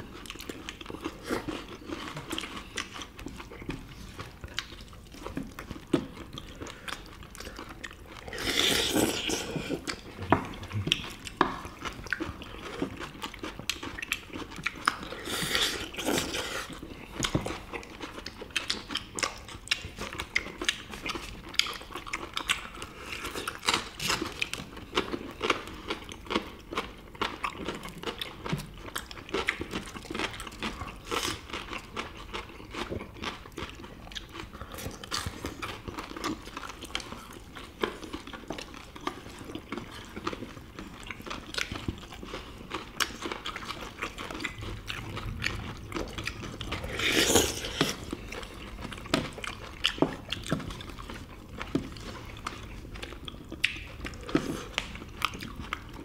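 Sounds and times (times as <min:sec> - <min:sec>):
people chewing crunchy food: 0:00.0 - 0:56.0.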